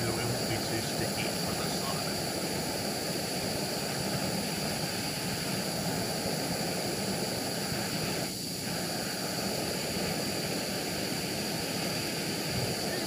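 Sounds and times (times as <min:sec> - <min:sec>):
torch flame rushing: 0:00.0 - 0:13.0.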